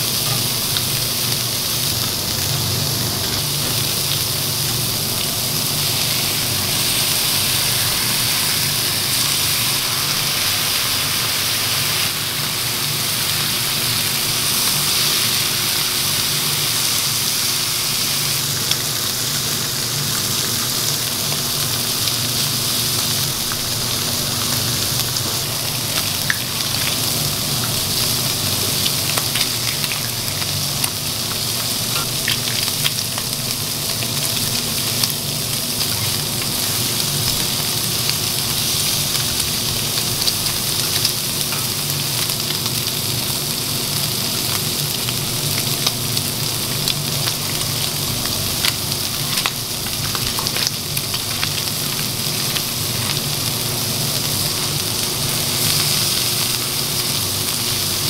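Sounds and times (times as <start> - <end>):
food sizzling on griddle: 0.0 - 58.0.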